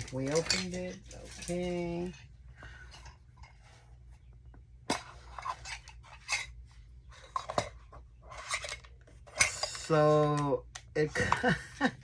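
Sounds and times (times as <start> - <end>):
rustling in a metal tin: 0.0 - 4.2, 4.8 - 10.3.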